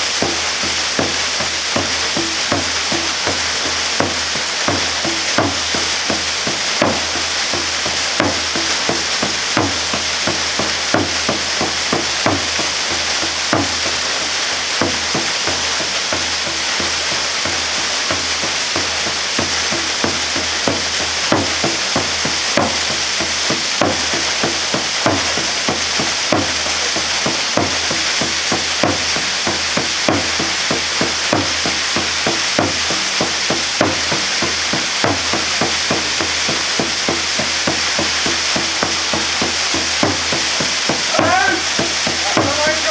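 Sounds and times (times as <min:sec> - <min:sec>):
waterfall pouring: 0:00.0 - 0:42.9.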